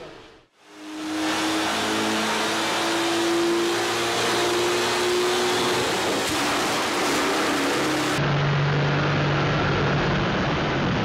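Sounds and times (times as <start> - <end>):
car engine at full throttle: 0.4 - 11.0.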